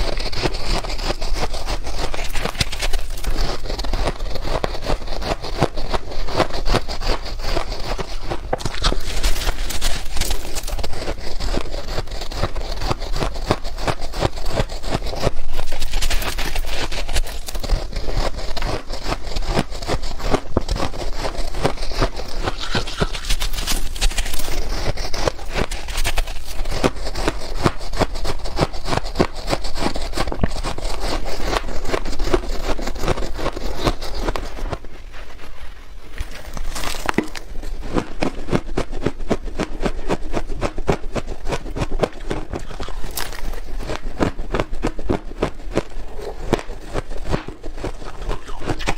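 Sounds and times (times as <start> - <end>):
crunching ice being chewed: 0.0 - 48.9.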